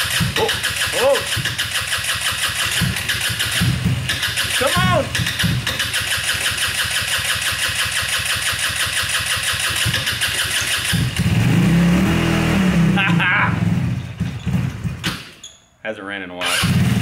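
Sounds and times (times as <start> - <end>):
go-kart engine cranking and revving: 0.0 - 15.4, 16.4 - 17.0.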